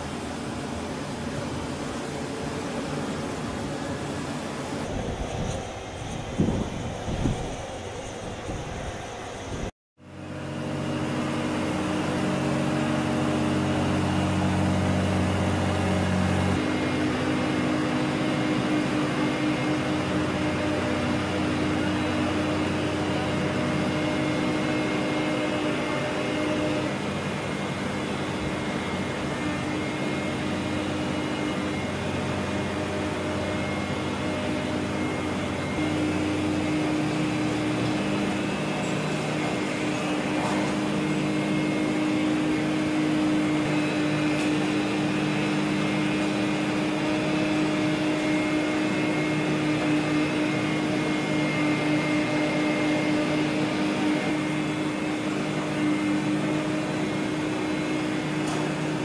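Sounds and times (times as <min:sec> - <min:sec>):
machinery drone: 0:00.0 - 0:59.0.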